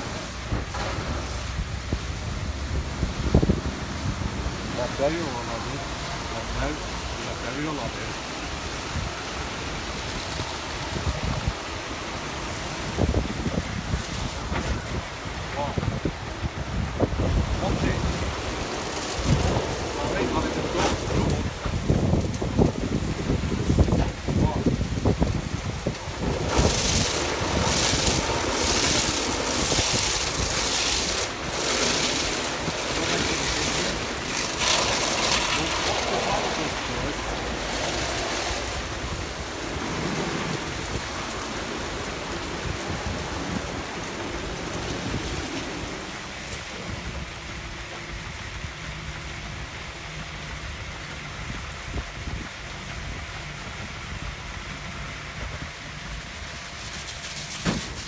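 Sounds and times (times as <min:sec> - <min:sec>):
car wash brushes scrubbing: 0:00.0 - 0:48.1, 0:56.0 - 0:58.0
water spraying and splashing: 0:00.0 - 0:58.0.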